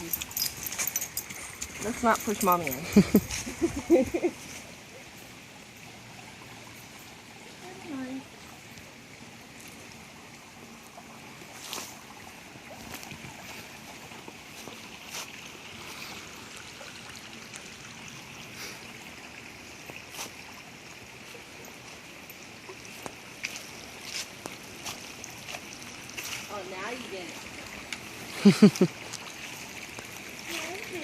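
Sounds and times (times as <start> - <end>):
stream running water: 0.0 - 31.0.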